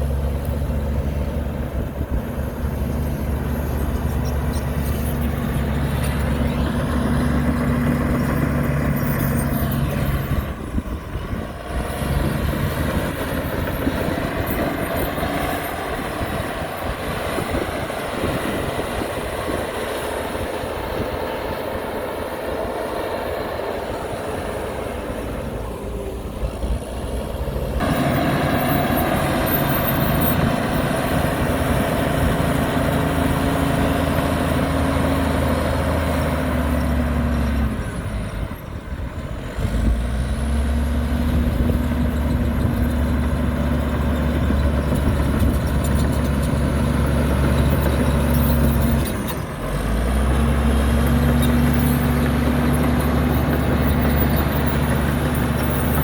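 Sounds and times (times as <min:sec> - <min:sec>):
heavy diesel engine running hard: 0:00.0 - 0:56.0.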